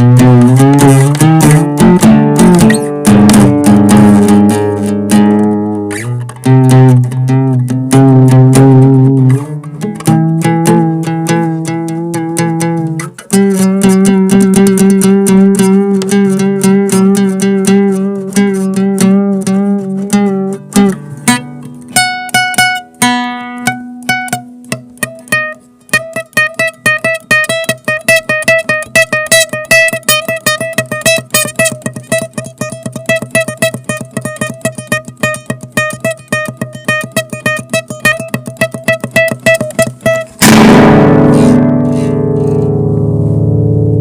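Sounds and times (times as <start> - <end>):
plucked string instrument: 0.0 - 44.0.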